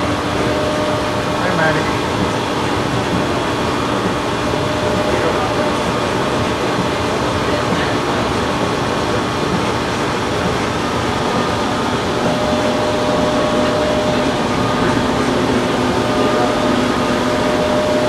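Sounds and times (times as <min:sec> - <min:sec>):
loud mechanical drone: 0:00.0 - 0:18.0.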